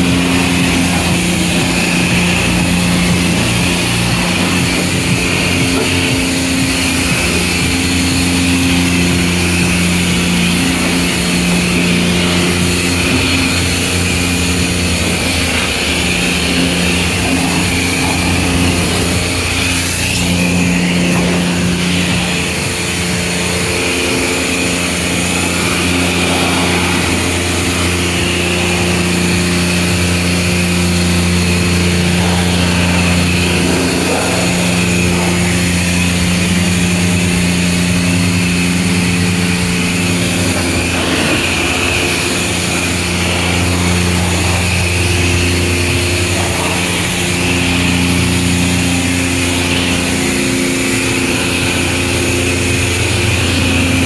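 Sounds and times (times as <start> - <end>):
high-pressure wand spraying: 0.0 - 54.0
wash pump humming: 0.0 - 54.0.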